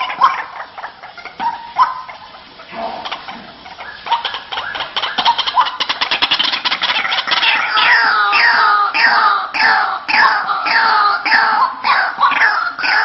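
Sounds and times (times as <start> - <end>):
waterhen calling harsh rattling notes: 0.0 - 13.0.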